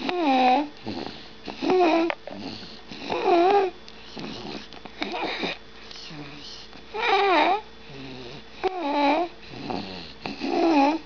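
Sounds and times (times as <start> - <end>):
baby snoring: 0.0 - 11.0.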